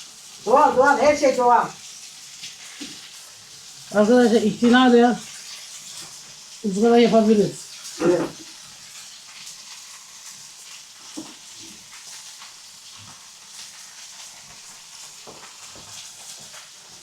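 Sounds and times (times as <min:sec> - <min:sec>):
meat sizzling on hot stone: 0:00.0 - 0:17.0
small crackles: 0:00.0 - 0:17.0.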